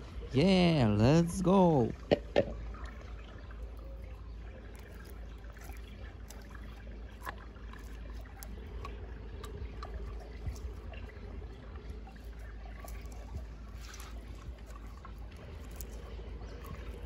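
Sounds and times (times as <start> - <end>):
faint trickling water: 0.0 - 17.0.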